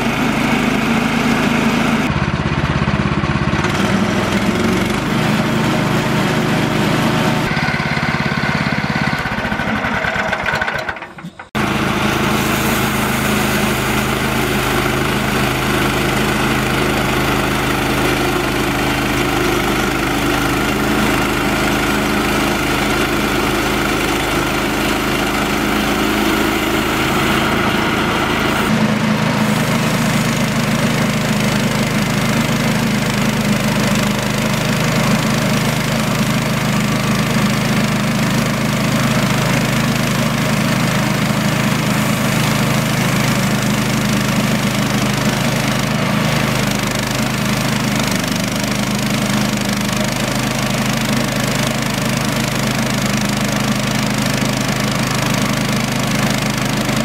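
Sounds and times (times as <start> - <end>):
band saw cutting log: 0.0 - 57.0
sawmill engine running: 0.0 - 57.0.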